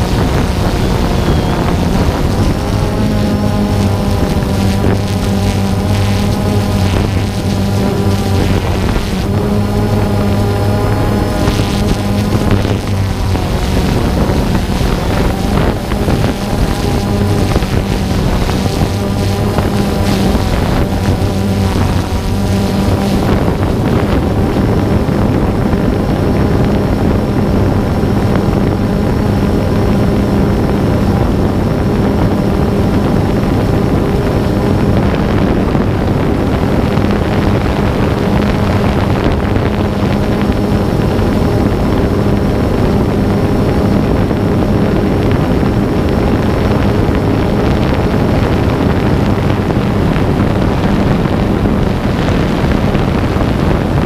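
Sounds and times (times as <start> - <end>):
drone propellers buzzing: 0.0 - 54.0
wind rushing over microphone: 0.0 - 54.0.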